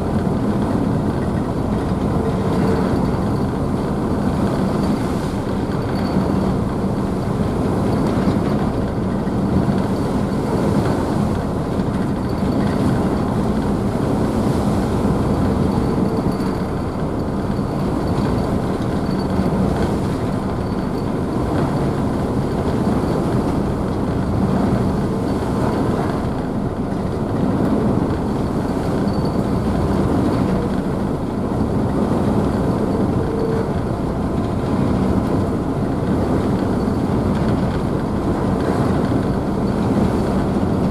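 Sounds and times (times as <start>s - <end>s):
ship engines rumbling: 0.0s - 40.9s.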